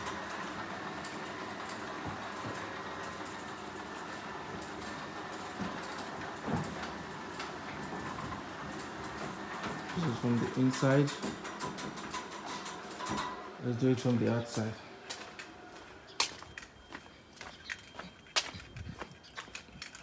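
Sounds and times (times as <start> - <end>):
garage door opener rumbling: 0.0 - 16.1.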